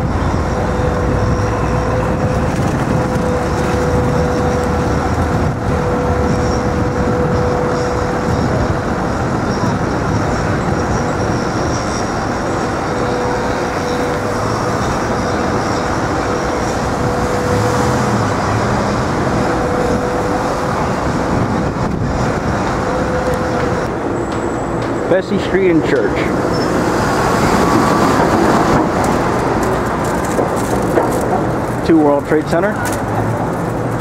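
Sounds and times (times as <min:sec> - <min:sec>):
city street traffic: 0:00.0 - 0:34.0.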